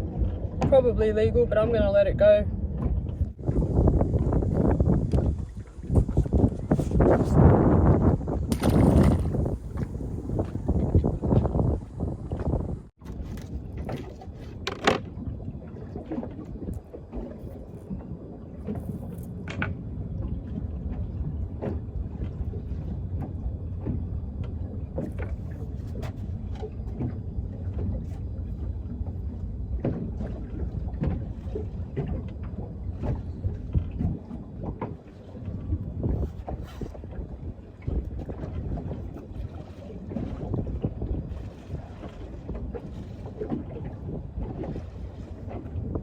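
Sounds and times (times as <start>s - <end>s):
small boat rumbling: 0.0s - 46.0s.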